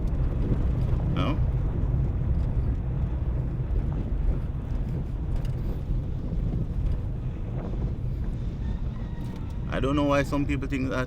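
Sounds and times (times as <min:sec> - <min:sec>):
car engine and road noise: 0:00.0 - 0:11.0
wind buffeting microphone: 0:00.0 - 0:11.0.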